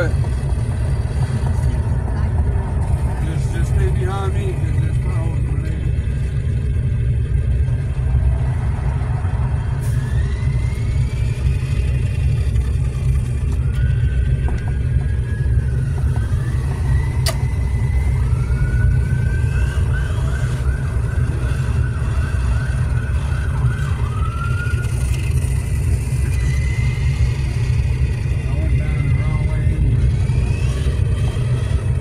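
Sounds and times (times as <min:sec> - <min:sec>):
electric motor whine: 0:00.0 - 0:32.0
faint warbling siren: 0:00.0 - 0:32.0
wind and road noise rumble: 0:00.0 - 0:32.0.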